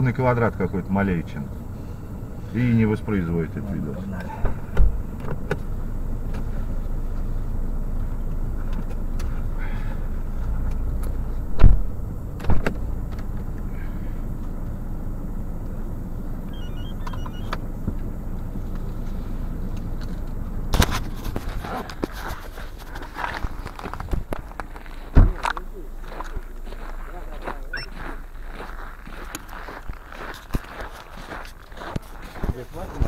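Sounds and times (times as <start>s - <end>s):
low vehicle rumble: 0.0s - 33.0s.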